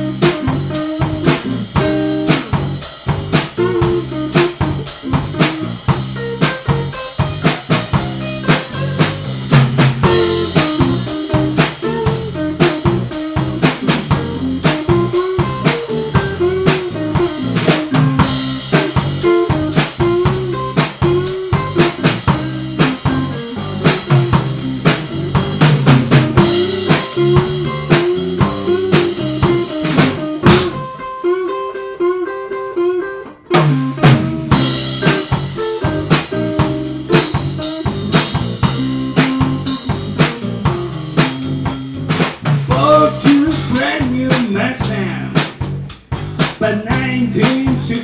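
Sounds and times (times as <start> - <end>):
drum kit: 0.0 - 31.3, 33.5 - 48.0
bass guitar: 0.0 - 48.0
electric guitar: 0.0 - 48.0.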